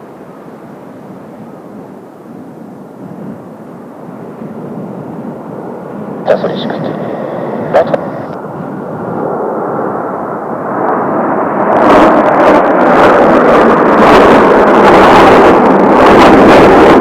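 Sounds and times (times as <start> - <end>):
jet aircraft roar: 0.0 - 17.0.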